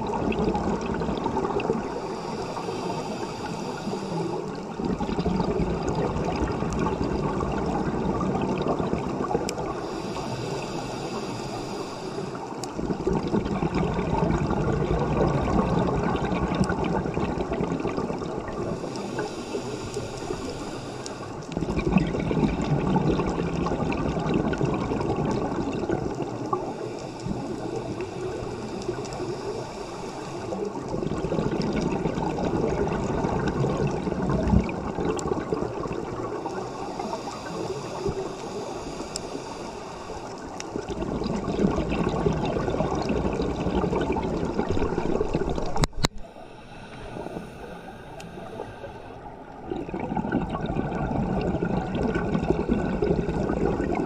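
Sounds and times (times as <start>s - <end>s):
water flowing and gurgling: 0.0s - 54.0s.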